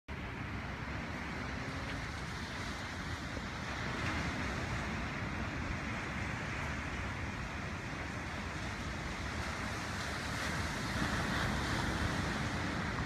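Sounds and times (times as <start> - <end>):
small waves breaking on beach: 0.1 - 13.0
wind buffeting microphone: 0.1 - 13.0.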